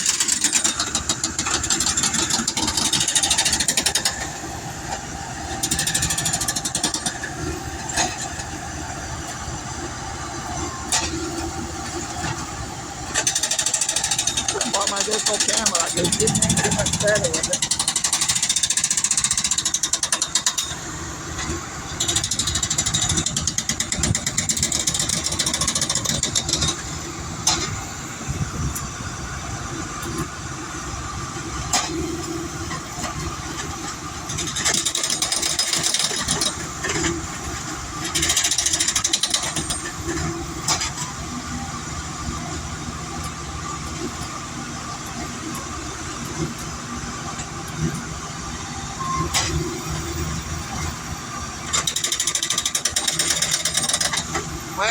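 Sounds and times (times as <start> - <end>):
track machinery running: 0.0 - 54.9.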